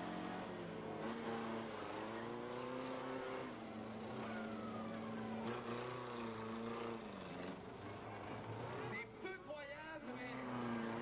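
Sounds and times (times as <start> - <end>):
car engines revving: 0.0 - 9.3, 10.0 - 11.0.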